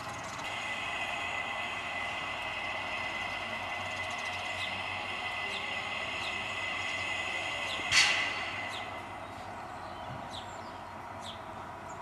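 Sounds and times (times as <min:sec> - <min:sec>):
sudden loud steam hiss: 0:00.0 - 0:10.5
steam hissing: 0:00.0 - 0:11.0.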